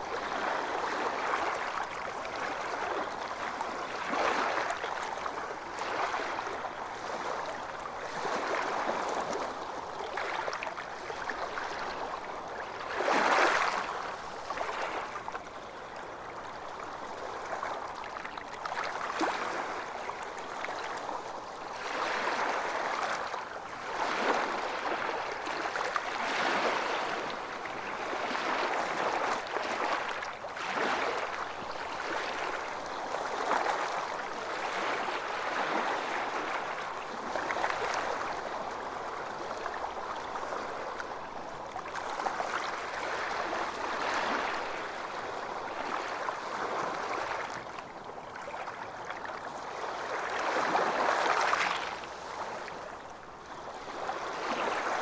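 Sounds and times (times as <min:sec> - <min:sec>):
small waves lapping against hulls: 0:00.0 - 0:55.0.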